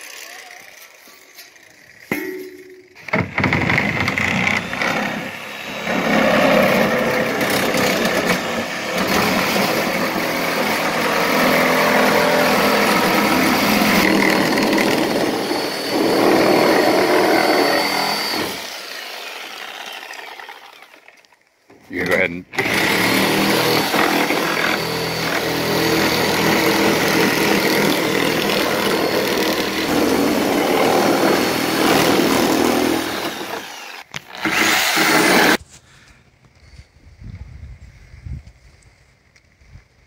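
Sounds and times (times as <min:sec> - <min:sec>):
reciprocating saw cutting steel: 0:00.0 - 0:03.0, 0:04.0 - 0:21.2, 0:22.6 - 0:35.6.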